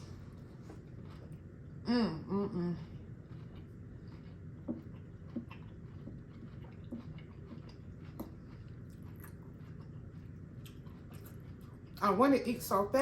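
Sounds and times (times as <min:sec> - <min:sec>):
chewing food: 0:00.0 - 0:01.8, 0:02.8 - 0:12.7.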